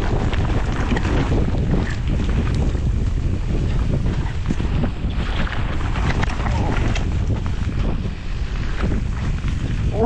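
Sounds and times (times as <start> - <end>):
bike clicks and rattles: 0.0 - 10.0
wind buffeting microphone: 0.0 - 10.0.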